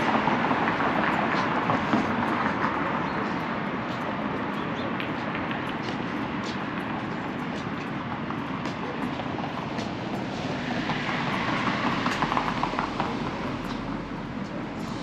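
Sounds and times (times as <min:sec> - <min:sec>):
street traffic: 0:00.0 - 0:15.0
streetcar rolling on rails: 0:00.0 - 0:15.0.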